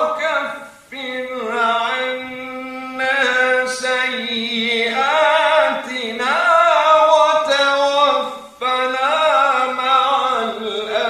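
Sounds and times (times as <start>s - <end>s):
person chanting melodically: 0.0s - 11.0s.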